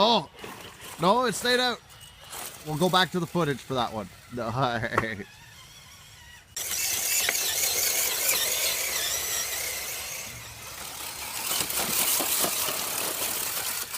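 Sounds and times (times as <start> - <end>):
electric toy truck motor whine: 0.0 - 13.9.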